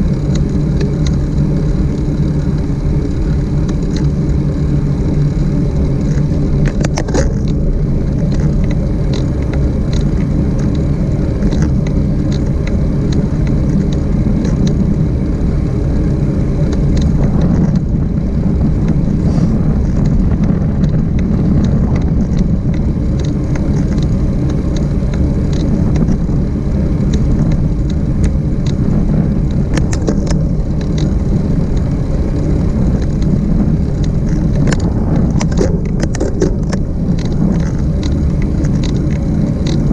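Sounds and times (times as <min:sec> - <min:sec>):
bike riding rumble: 0:00.0 - 0:39.9
small clicks and rattles: 0:00.0 - 0:39.9.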